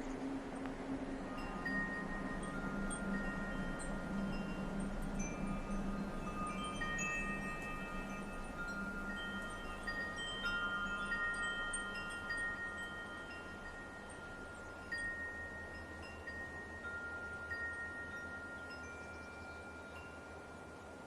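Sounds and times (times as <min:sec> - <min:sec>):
light wind hiss: 0:00.0 - 0:21.0
wind chimes ringing: 0:01.0 - 0:21.0.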